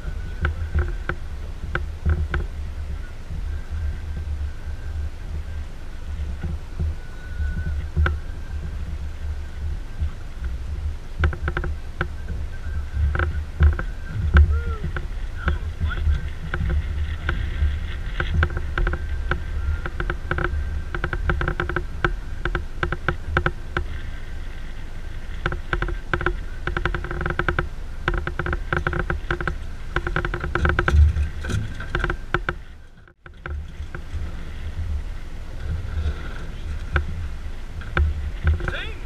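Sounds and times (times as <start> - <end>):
outboard motor running: 0.0 - 39.0
wind rumble on microphone: 0.0 - 39.0.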